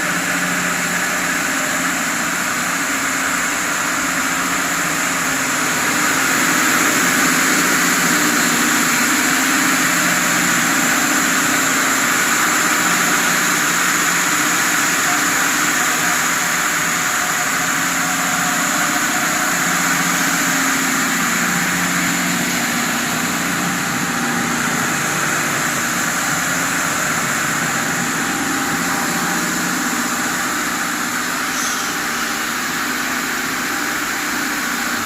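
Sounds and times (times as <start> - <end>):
plucking machine running: 0.0 - 35.0.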